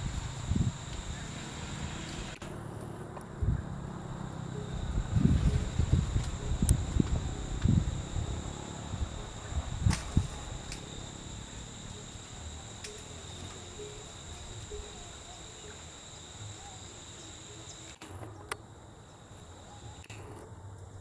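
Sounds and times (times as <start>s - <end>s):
high-pitched insect drone: 0.0s - 20.1s.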